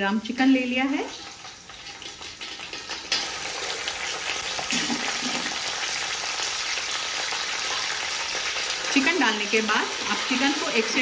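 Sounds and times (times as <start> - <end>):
chicken sizzling in hot oil: 0.6 - 11.0.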